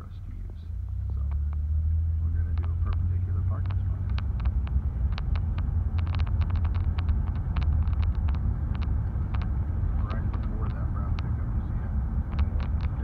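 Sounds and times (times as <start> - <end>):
car engine and road noise: 0.0 - 13.0
sharp clicks and ticks: 0.5 - 1.7, 2.4 - 13.0.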